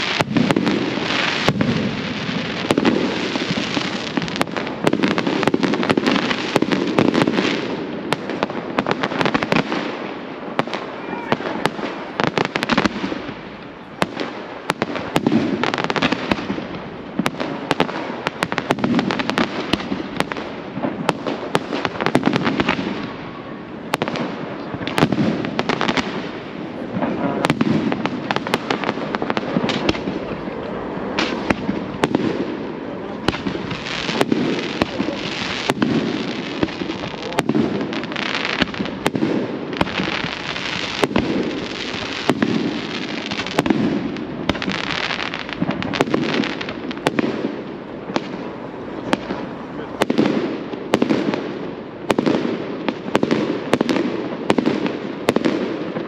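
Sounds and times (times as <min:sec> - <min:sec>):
fireworks bangs and crackling: 0:00.0 - 0:56.0
heavy fireworks booms: 0:00.0 - 0:56.0.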